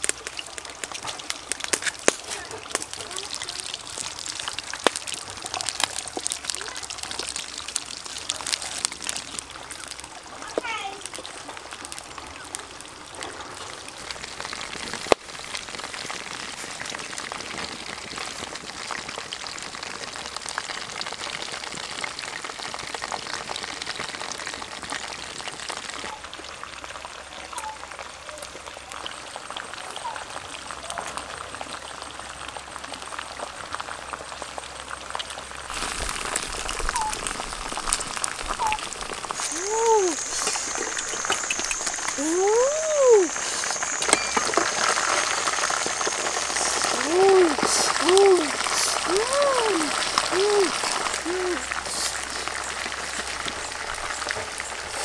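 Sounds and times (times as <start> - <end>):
deep-frying sizzle with crackling pops: 0.0 - 55.0.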